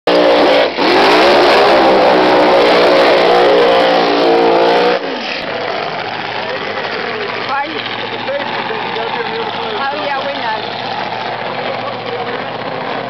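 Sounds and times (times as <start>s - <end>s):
race car engine revving: 0.1s - 13.0s.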